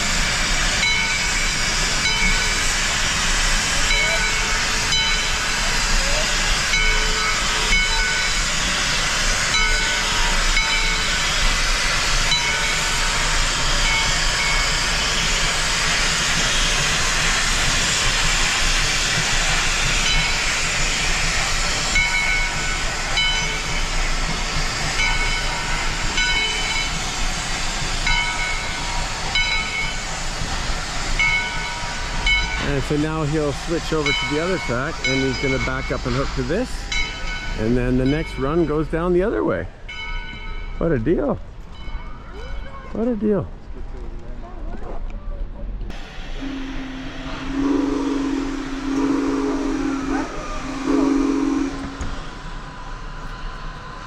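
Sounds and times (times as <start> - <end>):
loud steam hiss: 0.0 - 39.3, 45.9 - 54.0
steam locomotive moving off: 0.0 - 44.0, 45.4 - 54.0.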